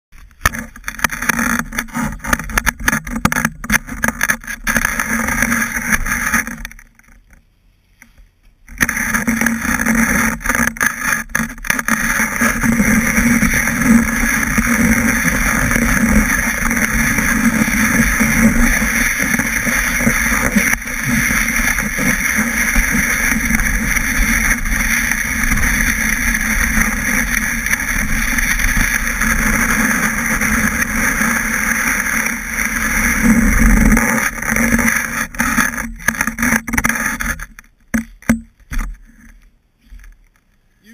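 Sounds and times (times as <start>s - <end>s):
snowboard scraping over snow: 0.5s - 6.7s, 8.8s - 37.5s.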